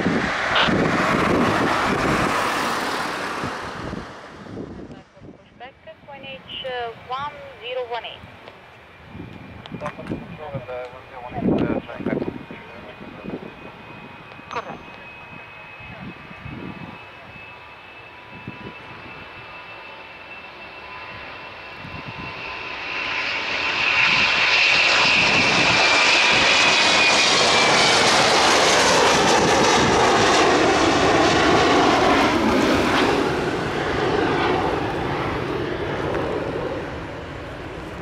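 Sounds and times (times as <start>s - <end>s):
jet engines at takeoff: 0.0s - 38.0s.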